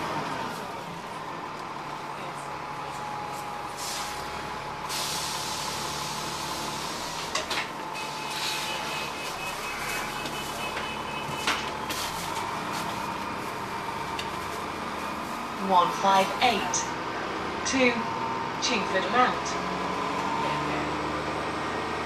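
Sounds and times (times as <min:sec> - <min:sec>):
bus engine and transmission: 0:00.0 - 0:22.0.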